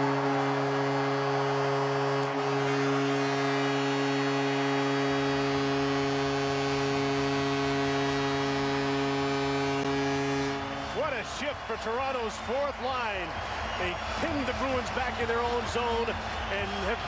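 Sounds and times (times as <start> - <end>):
crowd cheering: 0.0 - 17.0
goal horn blowing: 0.0 - 17.0.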